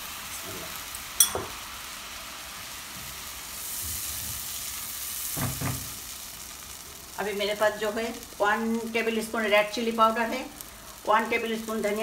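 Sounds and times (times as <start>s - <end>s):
yogurt sizzling in hot oil: 0.0s - 12.0s.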